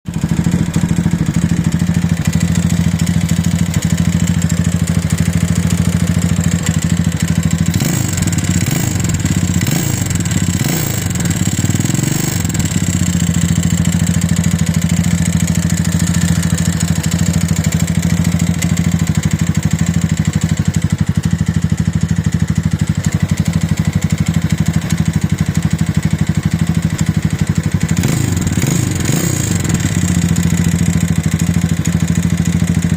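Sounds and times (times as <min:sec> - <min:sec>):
motorcycle engine knocking: 0:00.0 - 0:32.9.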